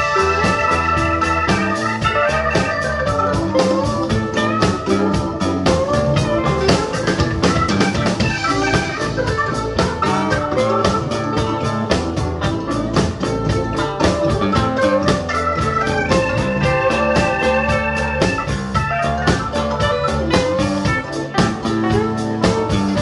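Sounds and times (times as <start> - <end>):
bass: 0.0 - 23.0
drum kit beat: 0.0 - 23.0
electric guitars: 0.0 - 23.0
organ keyboard: 0.0 - 23.0.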